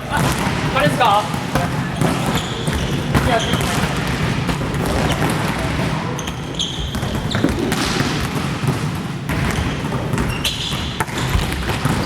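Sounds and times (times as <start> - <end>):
sneaker squeaks: 0.0 - 8.7, 9.4 - 12.0
basketballs bouncing on gym floor: 0.0 - 12.0.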